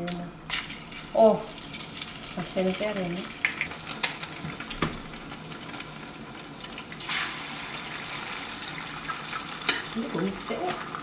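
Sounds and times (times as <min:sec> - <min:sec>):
eggs sizzling in a pan: 0:00.0 - 0:11.0.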